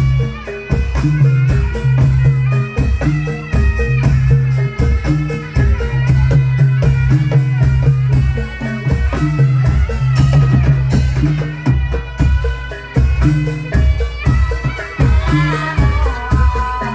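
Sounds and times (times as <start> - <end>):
drums beating steady rhythm: 0.0 - 16.9.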